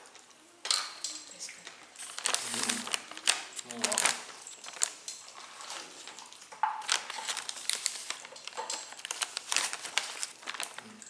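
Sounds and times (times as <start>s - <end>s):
food packaging crinkling: 0.7s - 11.0s.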